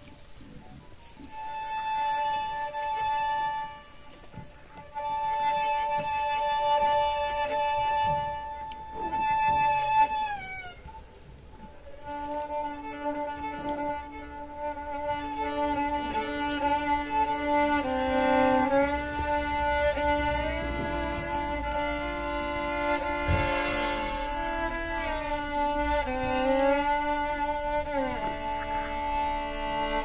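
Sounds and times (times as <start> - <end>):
solo violin playing long notes: 1.0 - 30.0.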